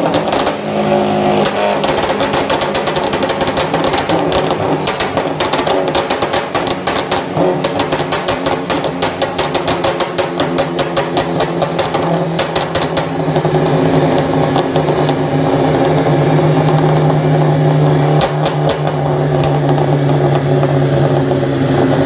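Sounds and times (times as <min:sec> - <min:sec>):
car engine with loud exhaust: 0:00.0 - 0:22.0
exhaust pops: 0:00.0 - 0:22.0.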